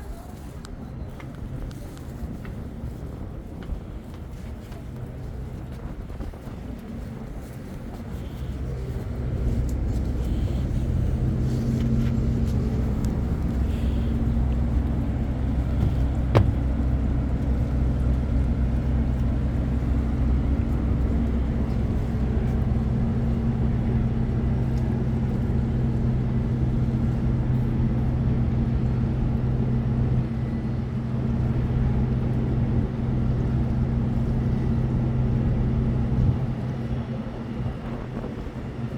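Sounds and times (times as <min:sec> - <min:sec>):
vehicle engine humming: 0:07.0 - 0:38.8.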